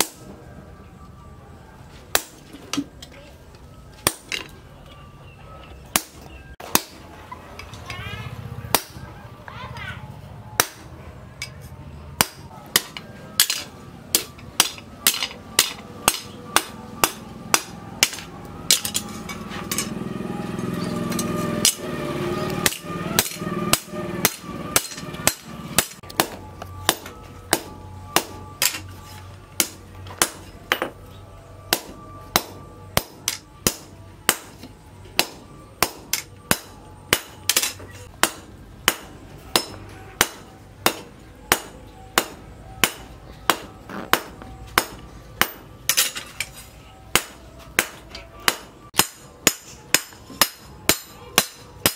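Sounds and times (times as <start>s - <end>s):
low background noise: 0.0s - 51.9s
hammer striking steel on anvil: 4.0s - 4.5s, 5.9s - 7.1s, 8.7s - 9.0s, 10.6s - 20.0s, 20.8s - 31.0s, 31.7s - 51.9s.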